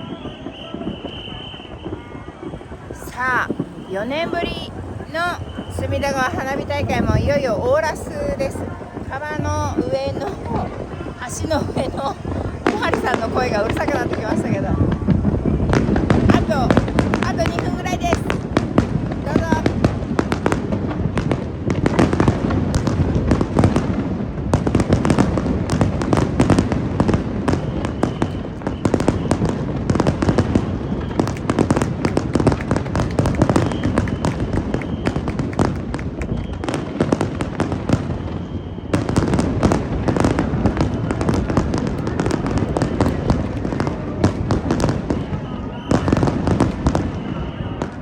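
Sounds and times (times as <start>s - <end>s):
fireworks bursting and crackling: 0.0s - 48.0s.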